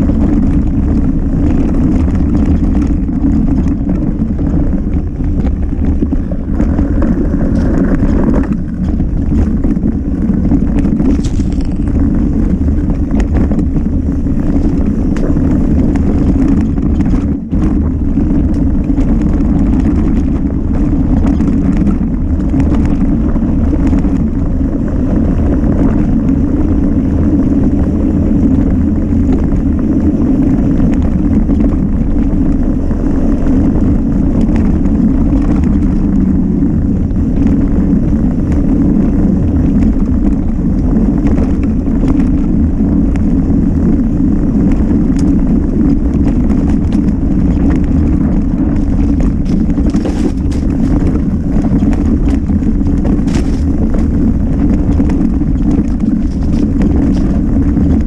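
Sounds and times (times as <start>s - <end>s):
bike rattling over ground: 0.0s - 58.0s
wind buffeting microphone: 0.0s - 58.0s.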